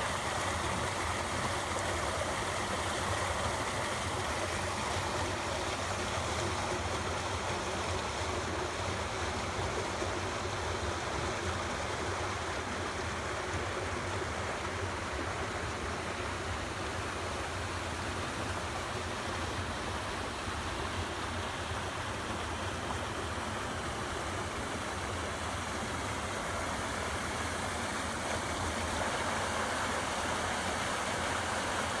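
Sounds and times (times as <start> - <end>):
water rushing along gutter: 0.0 - 32.0.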